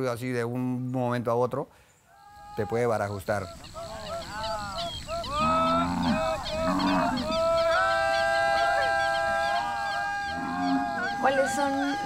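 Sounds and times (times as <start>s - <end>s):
deep bird calls: 1.8s - 12.0s
long held bird calls: 1.8s - 12.0s
birds honking calls: 2.2s - 12.0s.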